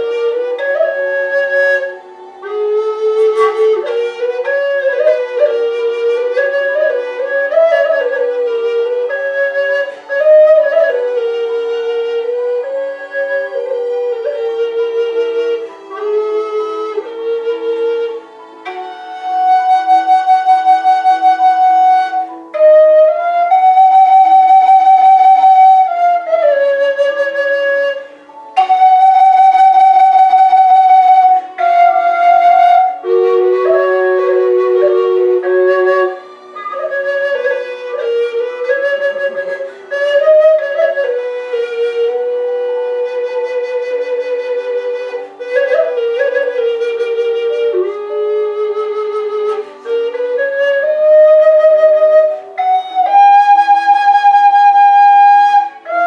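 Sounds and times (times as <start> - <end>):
flute drone note: 0.0 - 56.0
flute playing slow melody: 0.0 - 56.0.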